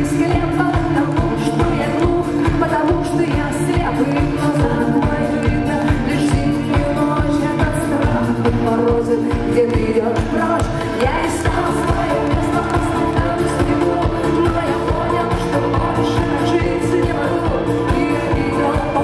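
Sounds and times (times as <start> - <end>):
steady drum beat: 0.0 - 19.0
woman singing: 0.0 - 19.0.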